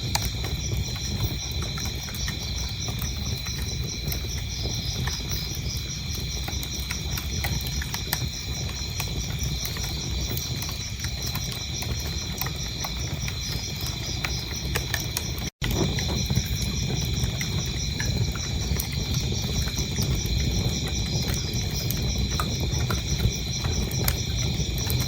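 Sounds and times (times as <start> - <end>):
crickets chirping: 0.0 - 25.0
wood fire crackling and popping: 0.0 - 25.0.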